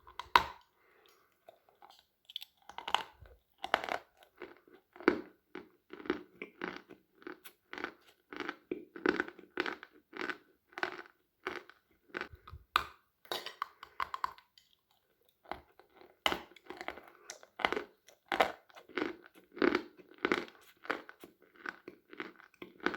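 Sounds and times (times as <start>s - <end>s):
chalk crunching while chewed: 0.0s - 12.6s, 13.6s - 22.9s.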